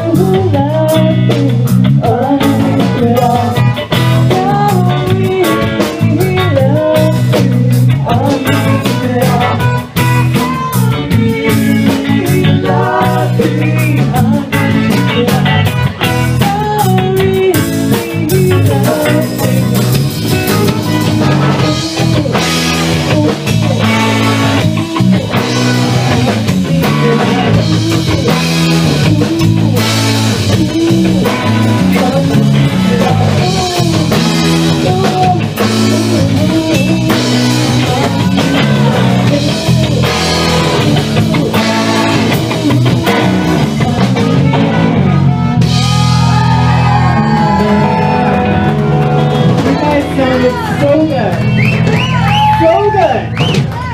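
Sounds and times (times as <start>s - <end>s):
live ska band playing: 0.0s - 53.9s.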